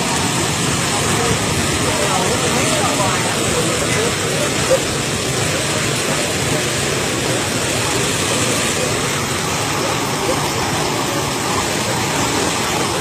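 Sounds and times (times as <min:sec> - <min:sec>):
water jet rushing and splashing: 0:00.0 - 0:13.0.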